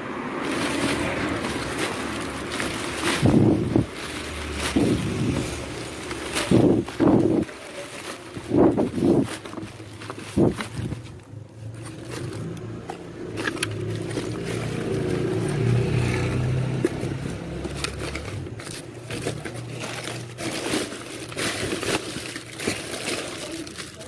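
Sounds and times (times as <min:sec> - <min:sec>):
passing vehicle engine hum: 0:00.0 - 0:07.5, 0:08.3 - 0:20.4
plastic and cardboard crinkling: 0:00.0 - 0:24.0.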